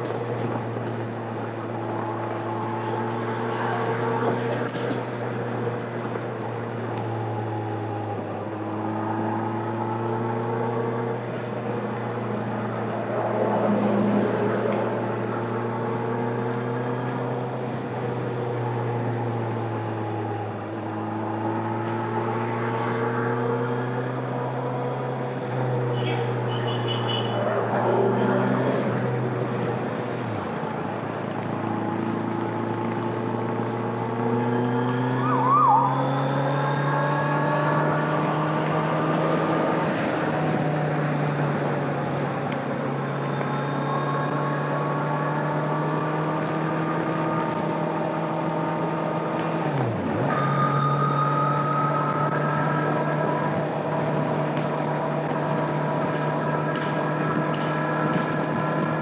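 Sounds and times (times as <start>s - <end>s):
motorcycle engine on highway: 0.0s - 59.0s.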